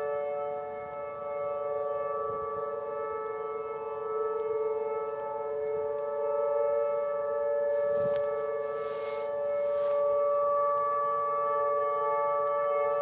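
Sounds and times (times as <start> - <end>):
tornado warning sirens: 0.0 - 13.0.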